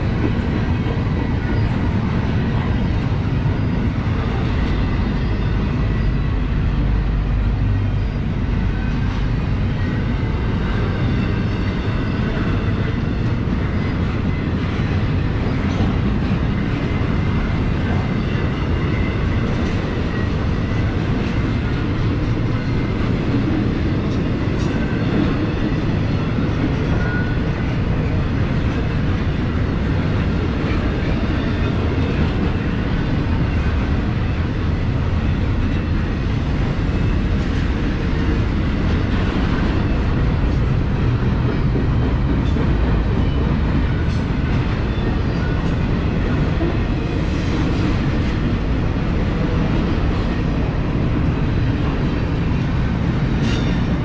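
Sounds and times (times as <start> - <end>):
freight train rolling past: 0.0 - 54.0
wheels clickety-clack on rail: 0.0 - 54.0.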